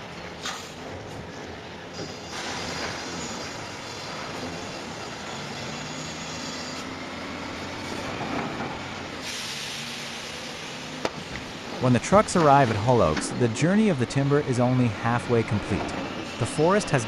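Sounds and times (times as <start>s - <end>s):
dense mechanical noise: 0.0s - 17.0s
heavy vehicle engine drone: 0.0s - 17.0s.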